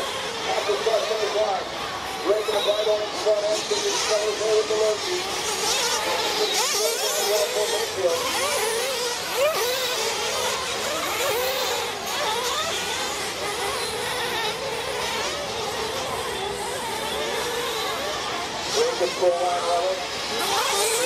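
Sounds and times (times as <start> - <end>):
rc truck engines buzzing: 0.0 - 21.0.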